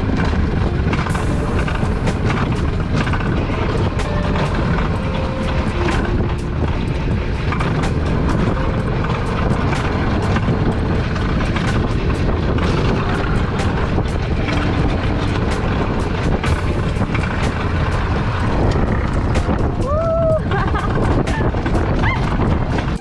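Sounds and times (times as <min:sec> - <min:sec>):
coaster wheels rumbling: 0:00.0 - 0:23.0
sharp clicks and rattles: 0:00.0 - 0:23.0.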